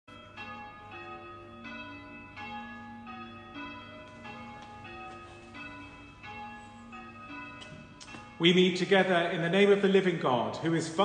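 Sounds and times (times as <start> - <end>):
church bells ringing: 0.1 - 11.0.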